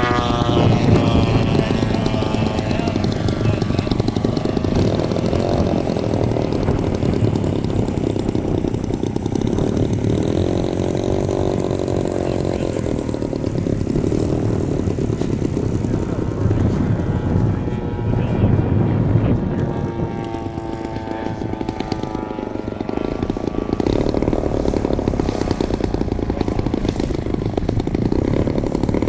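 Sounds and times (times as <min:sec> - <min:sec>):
model aircraft engine and propeller: 0:00.0 - 0:29.0.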